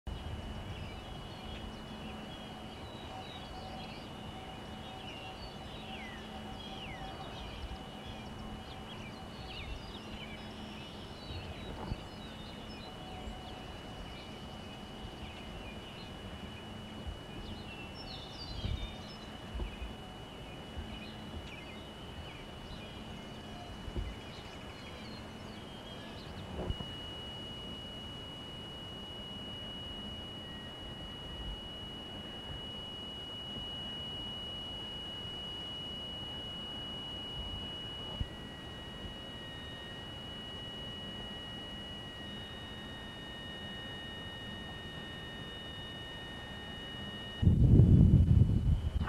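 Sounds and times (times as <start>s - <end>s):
songbirds chirping: 0.1s - 47.4s
high-pitched whine: 0.1s - 49.0s.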